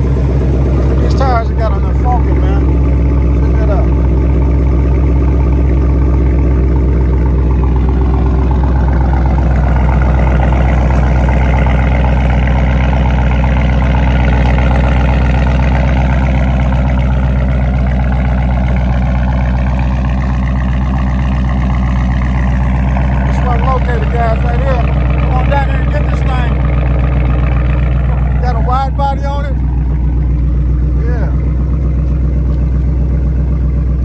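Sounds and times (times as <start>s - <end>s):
car engine idling with deep rumble: 0.0s - 34.0s.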